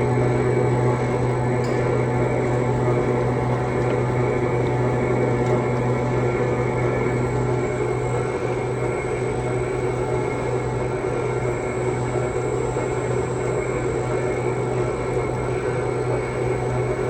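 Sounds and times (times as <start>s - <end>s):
oil expeller machine humming: 0.0s - 17.0s.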